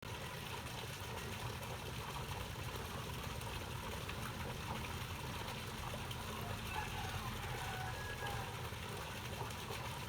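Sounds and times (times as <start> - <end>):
water pouring into pond: 0.0 - 10.0.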